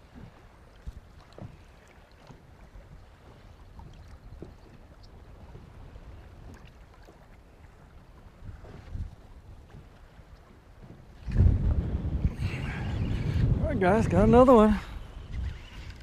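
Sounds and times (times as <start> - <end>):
faint low boat rumble: 0.0 - 16.0.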